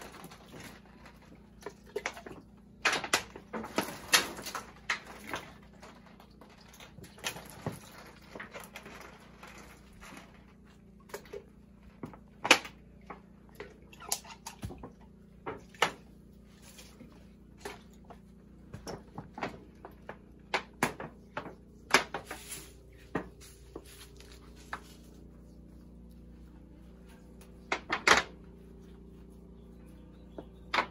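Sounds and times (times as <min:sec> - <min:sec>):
knocks and rustles of handling: 0:00.0 - 0:30.9
low steady hum: 0:00.0 - 0:30.9.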